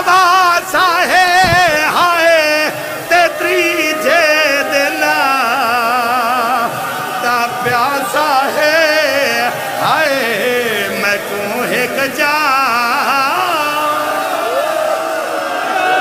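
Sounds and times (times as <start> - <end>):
person singing a lament: 0.0 - 16.0.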